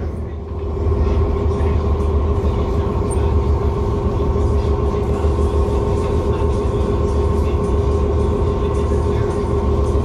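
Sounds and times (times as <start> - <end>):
ship engines droning: 0.0 - 10.0.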